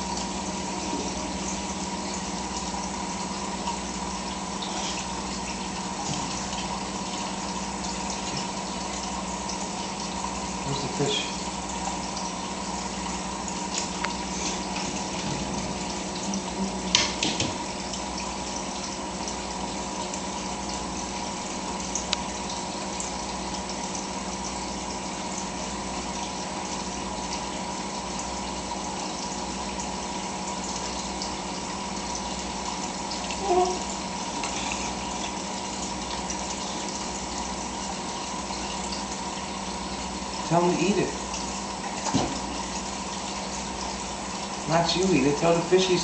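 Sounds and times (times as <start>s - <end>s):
filter humming: 0.0s - 46.0s
water trickling into fish tank: 0.0s - 46.0s.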